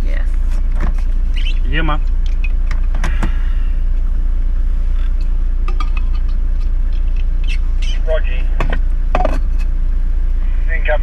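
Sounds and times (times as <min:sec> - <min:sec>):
engine droning inside cabin: 0:00.0 - 0:11.0.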